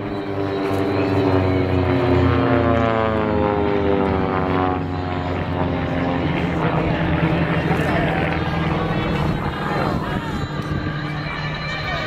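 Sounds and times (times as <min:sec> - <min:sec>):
propeller planes flying overhead: 0:00.0 - 0:12.0.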